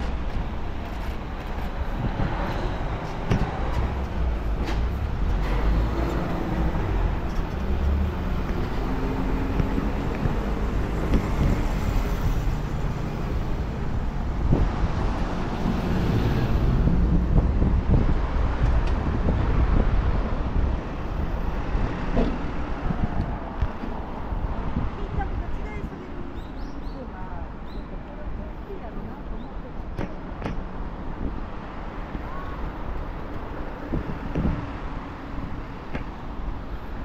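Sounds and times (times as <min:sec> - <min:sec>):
road traffic rumbling: 0:00.0 - 0:37.0.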